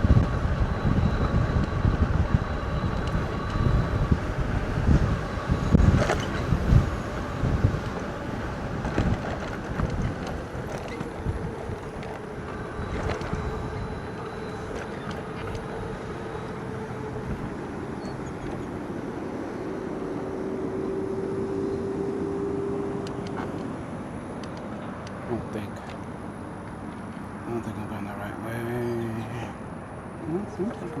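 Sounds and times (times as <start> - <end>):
faint steady whine: 0.0 - 31.0
road and tyre noise: 0.0 - 31.0
wind buffeting microphone: 0.0 - 31.0.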